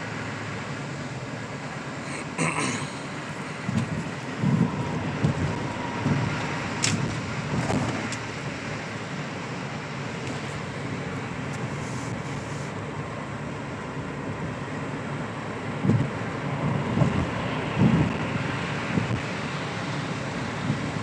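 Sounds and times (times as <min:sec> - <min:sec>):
car road noise on snow: 0:00.0 - 0:21.0.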